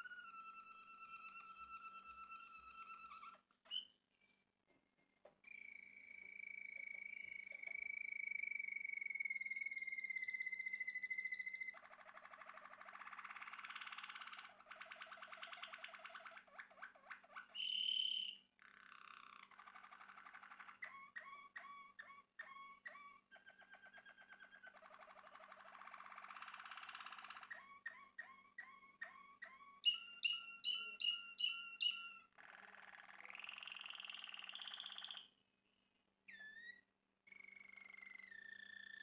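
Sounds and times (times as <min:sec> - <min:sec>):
canary singing: 0:00.0 - 0:04.0, 0:05.4 - 0:35.4, 0:36.3 - 0:39.0.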